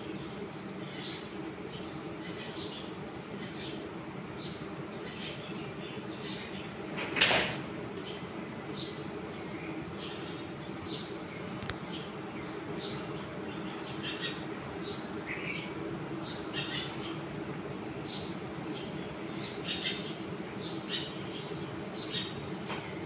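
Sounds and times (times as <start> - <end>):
swarm of bees buzzing: 0.0 - 23.0.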